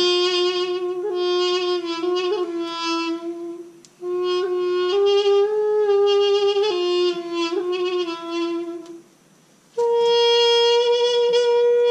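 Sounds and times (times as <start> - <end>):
solo wind instrument melody: 0.0 - 11.9.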